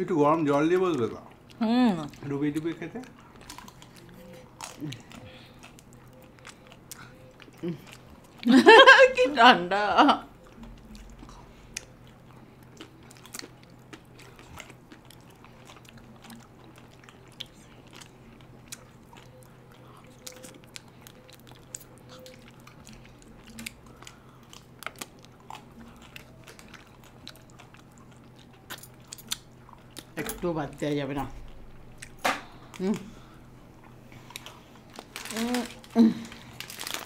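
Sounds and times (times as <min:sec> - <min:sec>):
people chewing ice cream bars: 0:00.0 - 0:09.3, 0:10.2 - 0:37.0.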